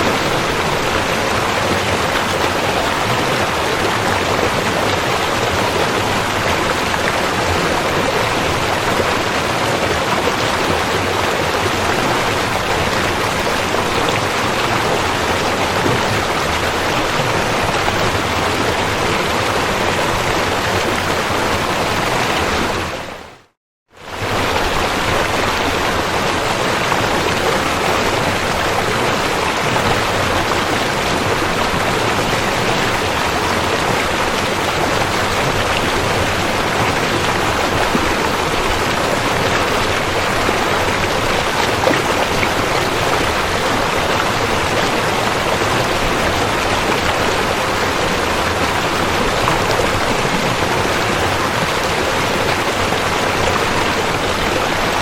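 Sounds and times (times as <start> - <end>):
river water rushing: 0.0 - 23.4, 24.0 - 55.0.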